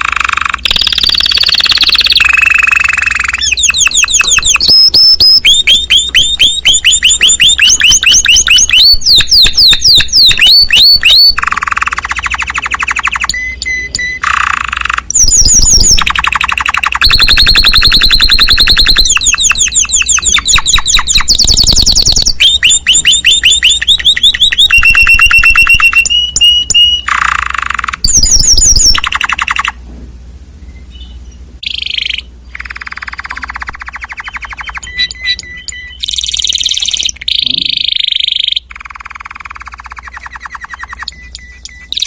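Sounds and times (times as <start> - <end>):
songbird singing rolling trills: 0.0 - 29.8, 30.6 - 42.0.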